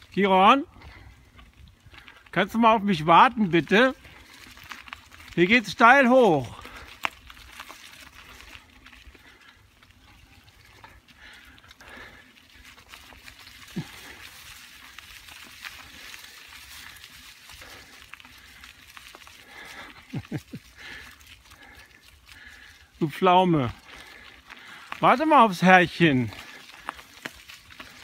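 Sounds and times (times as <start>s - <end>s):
bicycle tyres rustling through leaves: 0.0s - 28.0s.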